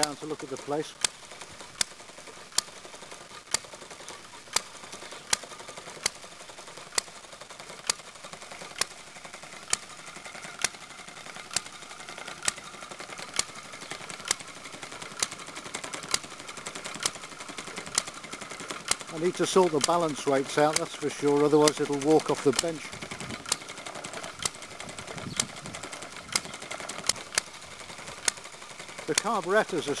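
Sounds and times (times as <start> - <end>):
light mechanical clatter: 0.0 - 30.0
small engine popping: 0.0 - 30.0.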